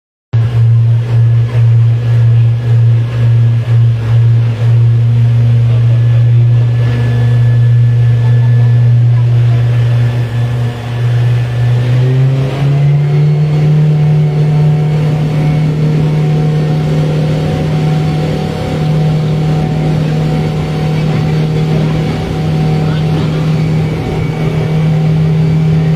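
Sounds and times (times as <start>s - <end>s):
outboard motor running: 0.4s - 25.9s.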